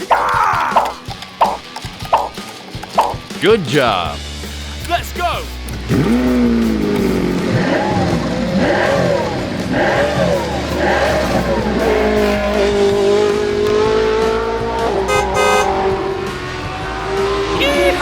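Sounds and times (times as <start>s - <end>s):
background music: 0.0s - 18.0s
car engine revving: 2.0s - 18.0s.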